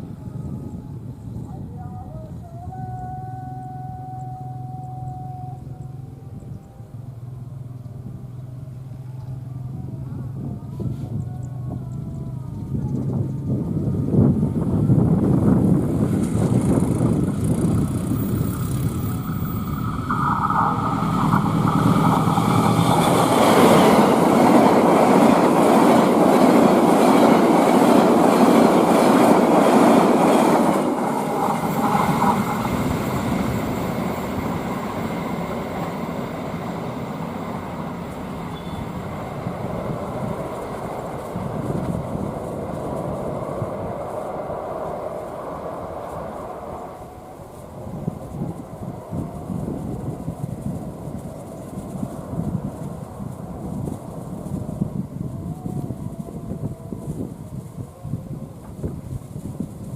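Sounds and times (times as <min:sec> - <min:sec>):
passenger train passing at high speed: 0:00.0 - 0:59.9.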